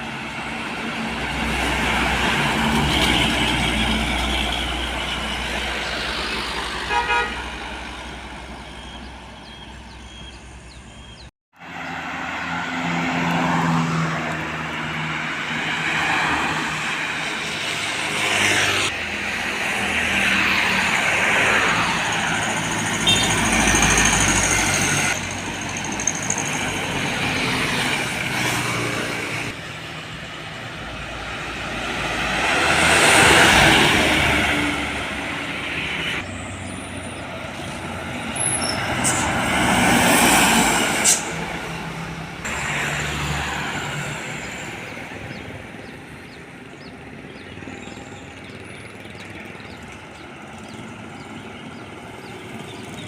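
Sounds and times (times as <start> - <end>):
trucks and buses driving past: 0.0 - 53.0.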